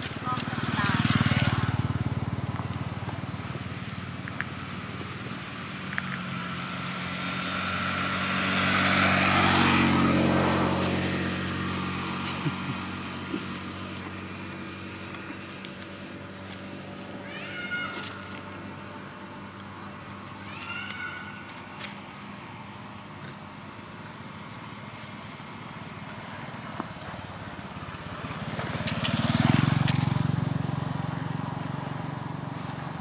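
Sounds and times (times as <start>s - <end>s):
vehicles passing on road: 0.0s - 33.0s.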